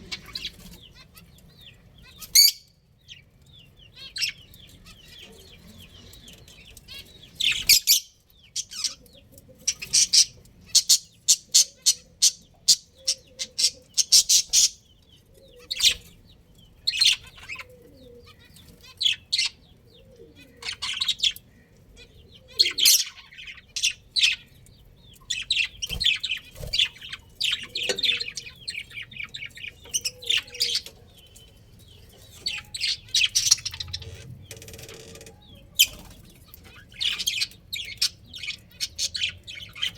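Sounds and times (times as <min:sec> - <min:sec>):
budgerigars chirping: 0:00.0 - 0:24.5, 0:25.1 - 0:39.9.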